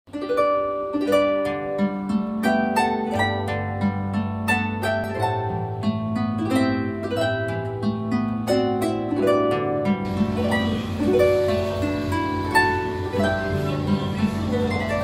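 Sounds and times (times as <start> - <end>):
harp music: 0.1 - 15.0.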